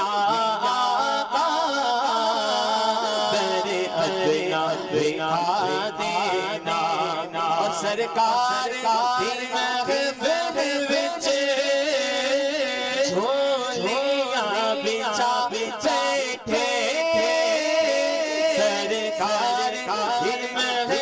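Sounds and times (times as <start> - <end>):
man singing ornamented lead: 0.0 - 21.0.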